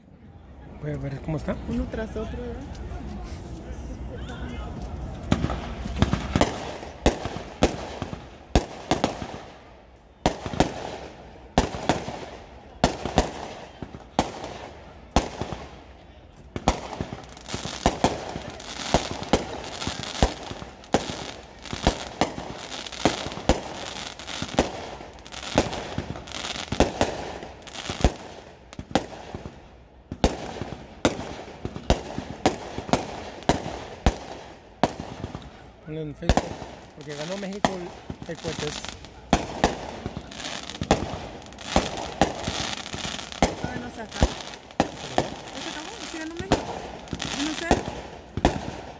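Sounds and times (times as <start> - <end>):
firework crackling: 1.0 - 48.9
firecrackers banging: 1.1 - 48.9.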